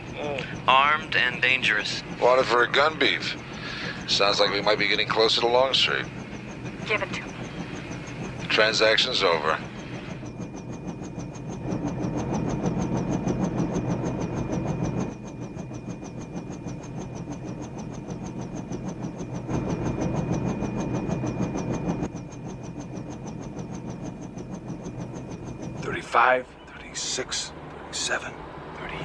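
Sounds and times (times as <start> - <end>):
helicopter turbine whine: 0.0 - 29.0
rotor blades chopping: 0.0 - 29.0.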